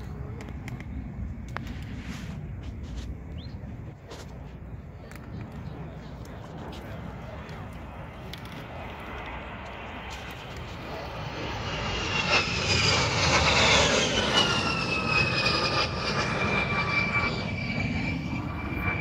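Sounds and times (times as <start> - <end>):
jet engines whining: 0.0 - 19.0.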